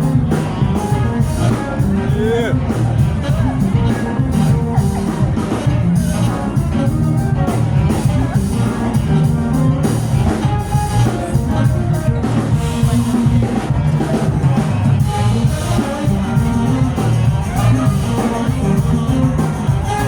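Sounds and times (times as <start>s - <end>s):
drum kit steady beat: 0.0s - 20.0s
live band playing amplified music: 0.0s - 20.0s.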